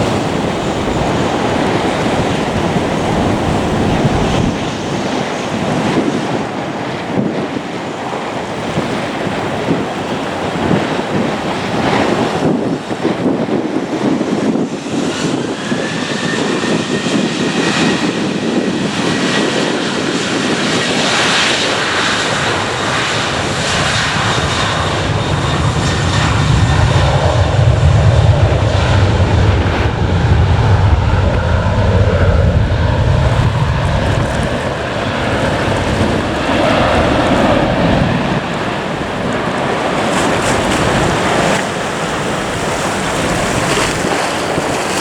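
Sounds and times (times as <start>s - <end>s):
jet engine whine and rumble: 0.0s - 45.0s.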